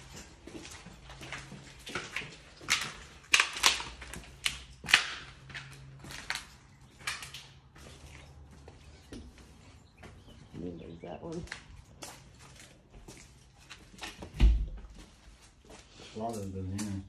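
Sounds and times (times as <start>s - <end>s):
footsteps crunching over rubble: 0.0s - 17.0s.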